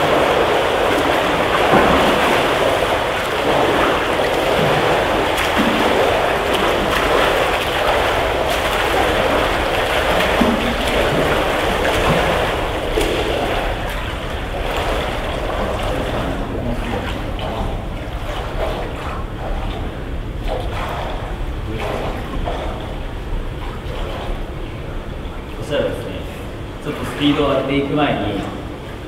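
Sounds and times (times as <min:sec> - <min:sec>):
swimmers splashing: 0:00.0 - 0:29.0
water lapping: 0:00.0 - 0:29.0.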